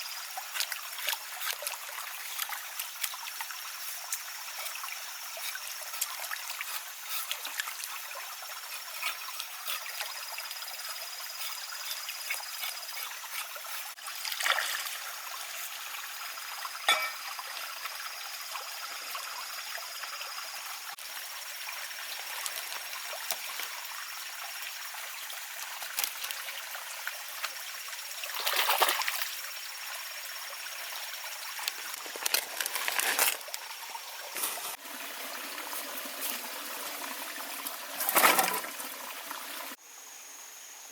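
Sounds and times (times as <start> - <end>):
water trickling: 0.1 - 39.8.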